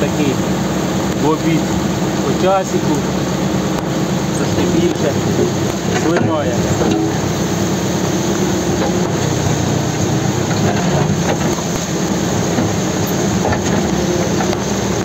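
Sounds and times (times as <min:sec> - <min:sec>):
backhoe engine running under load: 0:00.0 - 0:15.0
heavy rain pouring: 0:00.0 - 0:15.0.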